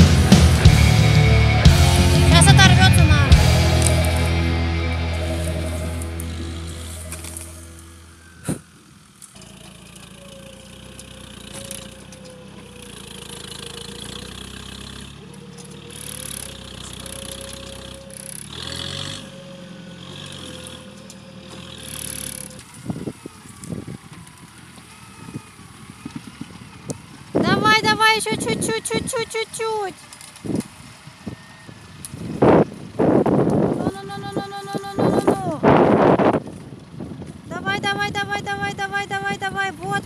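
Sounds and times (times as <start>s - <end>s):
electric winch whine: 0.0s - 37.4s
diesel engine running: 0.0s - 40.0s.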